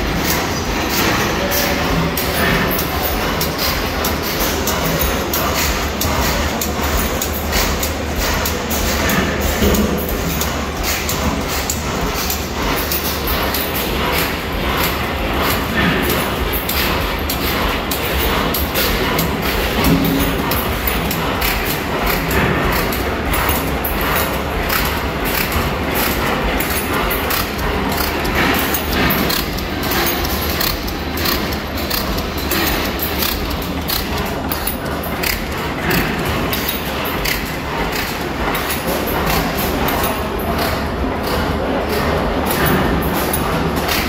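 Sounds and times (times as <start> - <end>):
stationary gas engines clattering: 0.0 - 44.0.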